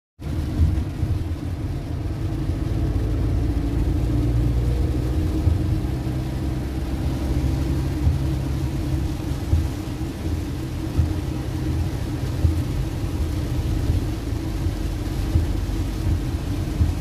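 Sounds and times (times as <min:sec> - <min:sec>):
car engine and tyre rumble: 0:00.2 - 0:17.0.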